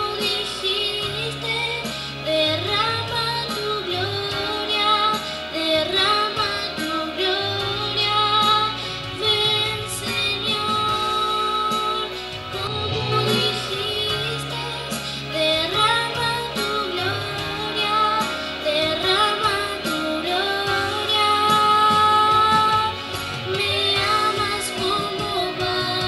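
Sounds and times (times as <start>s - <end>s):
girl singing into microphone: 0.0s - 26.0s
instrumental accompaniment: 0.0s - 26.0s.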